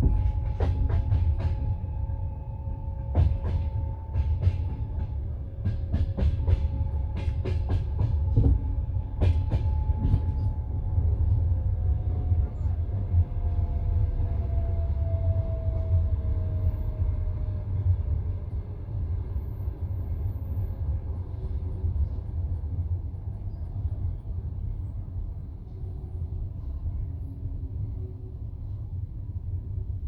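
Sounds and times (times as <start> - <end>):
train rumble inside carriage: 0.0 - 30.0.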